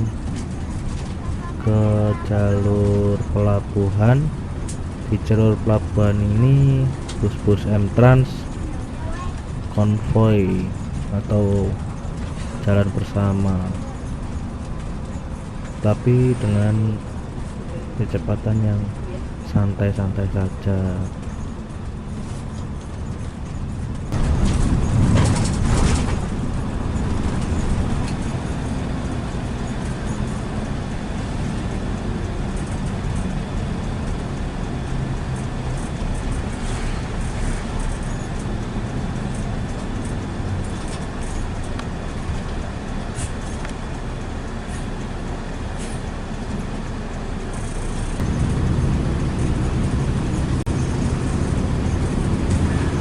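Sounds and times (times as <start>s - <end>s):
bus engine and road noise: 0.0s - 53.0s.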